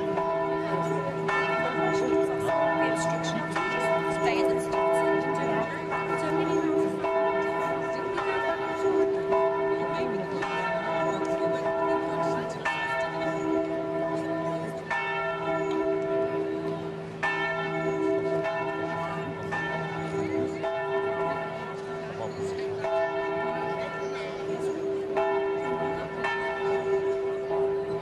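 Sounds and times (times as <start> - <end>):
bells ringing: 0.0 - 28.0.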